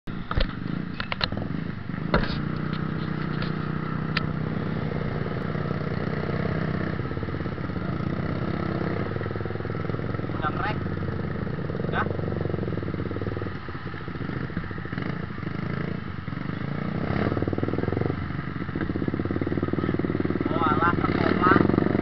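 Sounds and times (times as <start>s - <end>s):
motorcycle engines humming: 0.1s - 22.0s.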